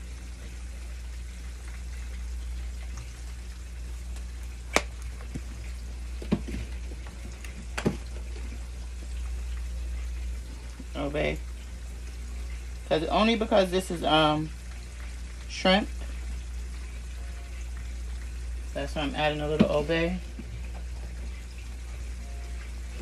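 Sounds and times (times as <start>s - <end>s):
sauce sizzling in a pan: 0.0s - 23.0s.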